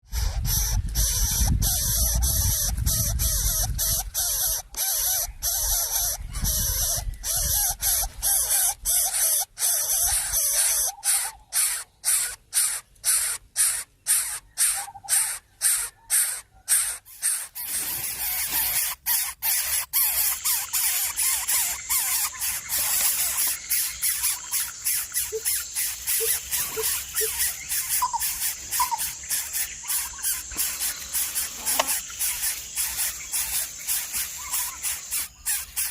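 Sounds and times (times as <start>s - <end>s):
nestling birds hissing begging calls: 0.1s - 35.9s.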